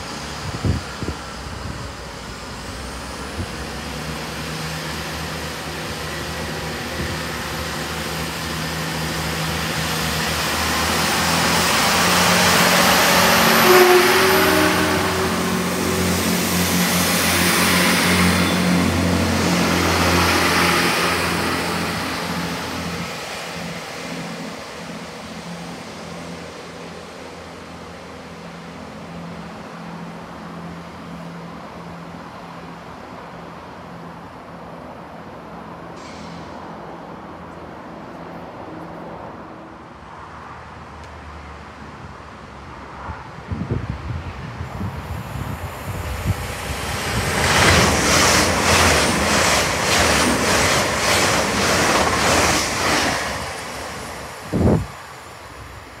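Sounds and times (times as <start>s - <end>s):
train wheels rumbling on rails: 0.0s - 34.4s, 43.1s - 56.0s
train engines droning: 0.0s - 41.0s, 41.6s - 56.0s.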